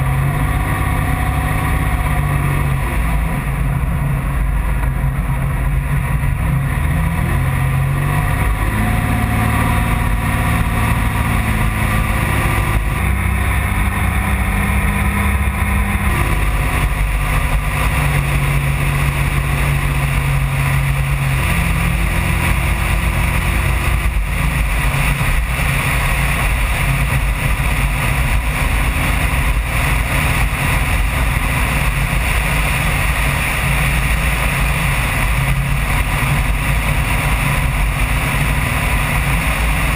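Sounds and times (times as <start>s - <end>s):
car engine running: 0.0s - 39.9s
road and wind noise: 0.0s - 39.9s.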